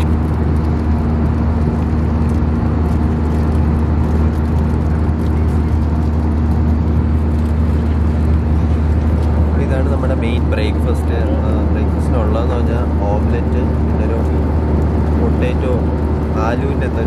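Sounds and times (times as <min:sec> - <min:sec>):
jet engines droning in cabin: 0:00.0 - 0:17.0.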